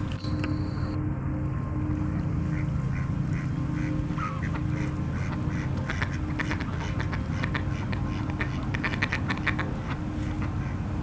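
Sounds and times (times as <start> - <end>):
steady low hum: 0.0 - 11.0
ducks quacking: 2.1 - 11.0.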